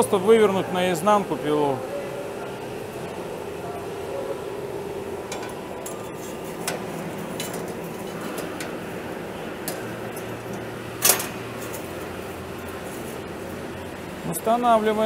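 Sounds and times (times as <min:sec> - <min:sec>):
steady workshop hum: 0:00.0 - 0:15.0.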